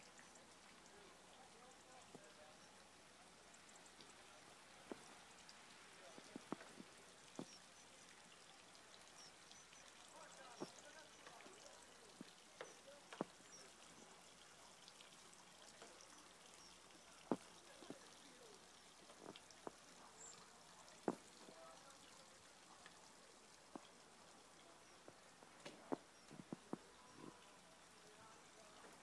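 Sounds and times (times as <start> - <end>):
faint outdoor hush: 0.0 - 29.0
meltwater dripping: 0.0 - 29.0.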